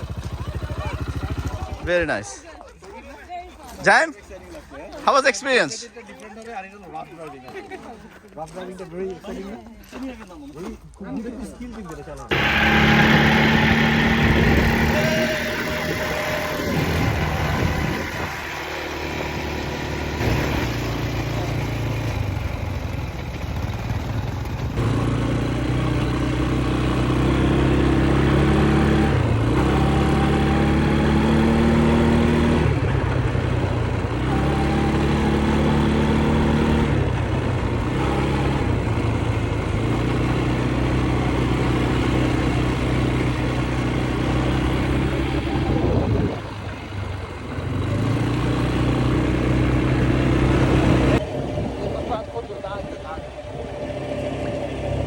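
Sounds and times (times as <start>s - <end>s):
quad bike engines idling: 0.0s - 4.1s, 12.2s - 55.0s.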